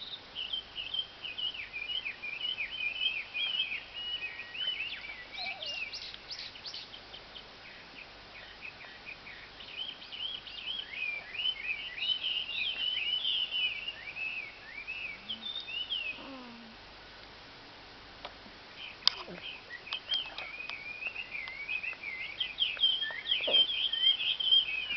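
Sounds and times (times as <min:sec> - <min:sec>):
small birds chirping: 0:00.0 - 0:16.8, 0:18.3 - 0:24.9.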